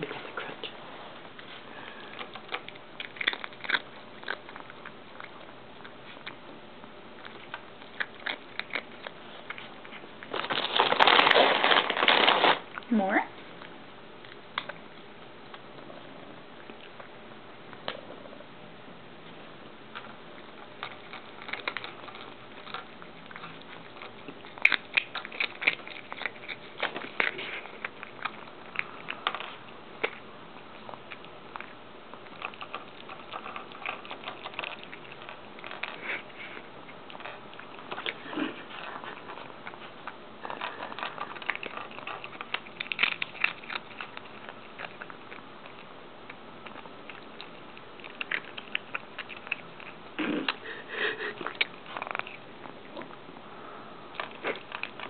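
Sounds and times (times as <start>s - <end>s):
cat crunching chips: 0.0s - 18.3s, 19.9s - 55.0s.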